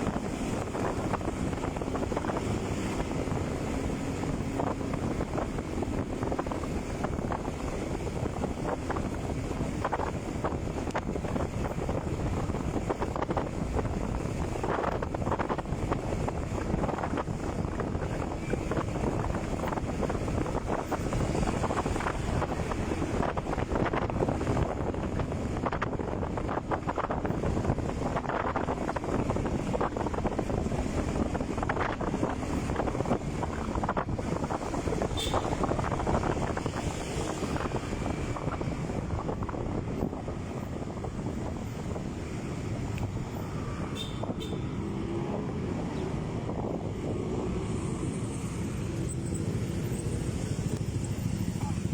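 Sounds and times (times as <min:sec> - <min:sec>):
road noise: 0:00.0 - 0:51.9
wind buffeting microphone: 0:00.0 - 0:51.9.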